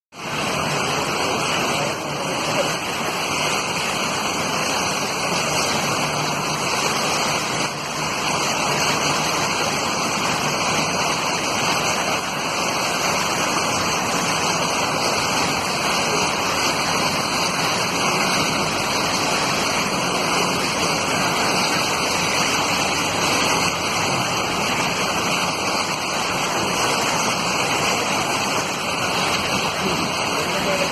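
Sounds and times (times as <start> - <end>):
rushing water: 0.1 - 30.9.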